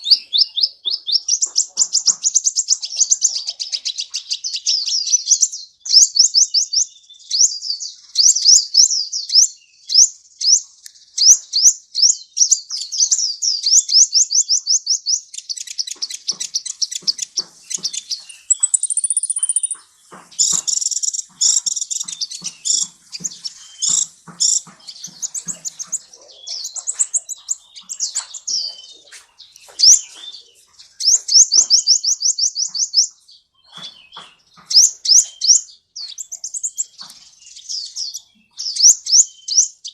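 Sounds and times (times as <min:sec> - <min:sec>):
sunbird singing fast trills: 0:00.0 - 0:39.9.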